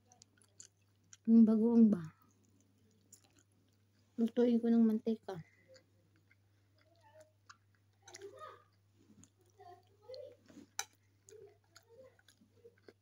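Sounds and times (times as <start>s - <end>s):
chewing and wet mouth smacks: 0.0s - 1.3s, 2.2s - 4.1s, 5.6s - 13.0s.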